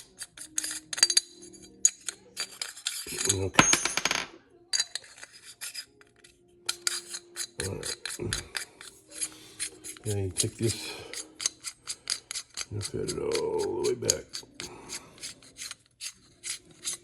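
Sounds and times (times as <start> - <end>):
metal parts rubbing: 0.0 - 4.0, 4.8 - 17.0.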